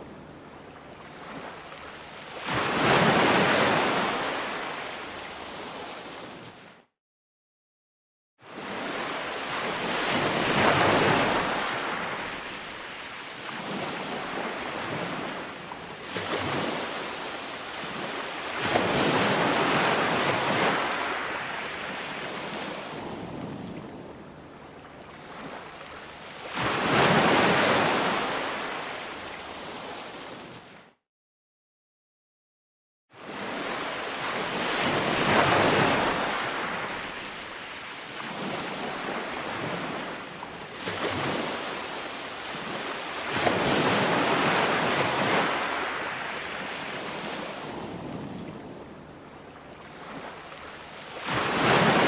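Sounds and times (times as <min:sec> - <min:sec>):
ocean waves breaking on shore: 0:00.0 - 0:06.9, 0:08.4 - 0:31.0, 0:33.2 - 0:52.0.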